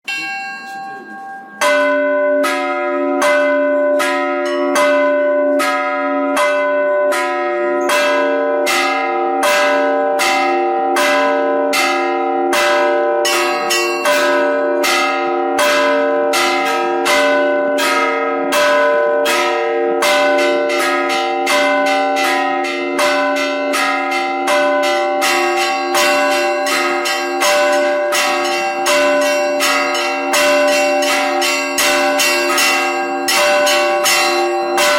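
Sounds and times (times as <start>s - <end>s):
church bells ringing a peal: 0.0s - 34.9s.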